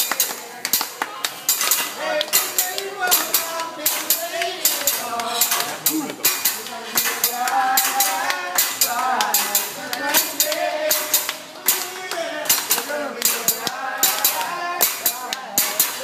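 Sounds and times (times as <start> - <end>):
sharp metallic clacks: 0.0 - 16.0
man singing: 1.9 - 16.0.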